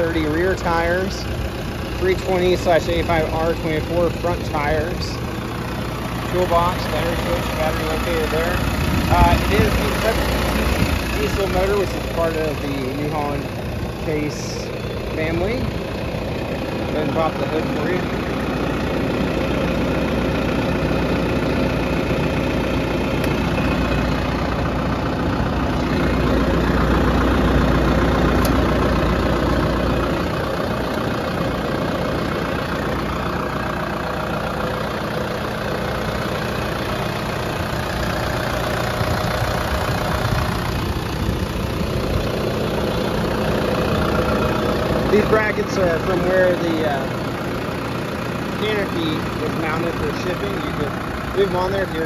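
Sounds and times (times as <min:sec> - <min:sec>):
tractor diesel engine idling: 0:00.0 - 0:52.0.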